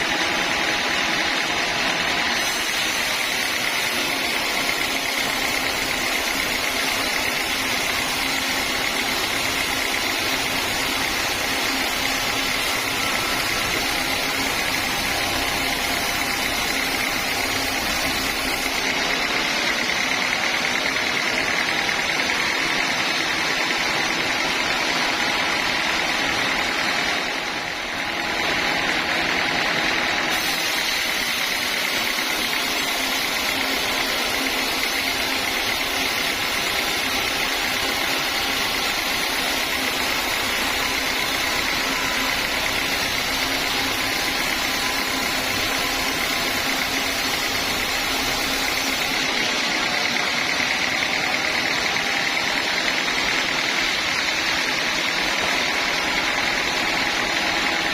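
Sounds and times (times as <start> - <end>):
sawmill machinery sawing timber: 0.0 - 57.9.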